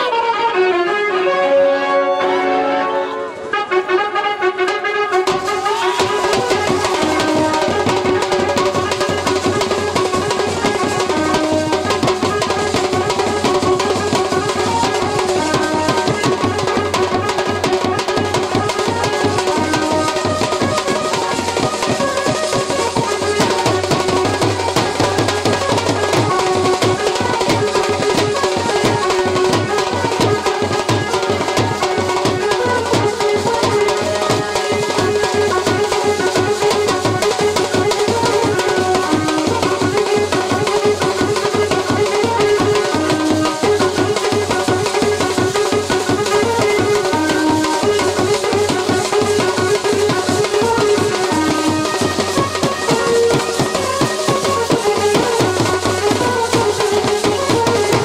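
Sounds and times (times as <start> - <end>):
brass band playing: 0.0 - 58.0
steady drum beat: 5.2 - 58.0.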